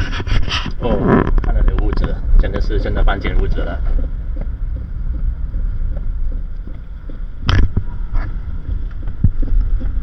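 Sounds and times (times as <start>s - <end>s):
car driving rumble from inside: 0.0s - 10.0s.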